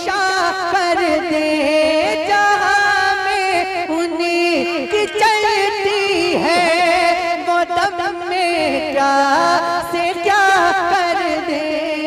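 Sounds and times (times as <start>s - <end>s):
man singing ornamented notes: 0.9s - 12.0s.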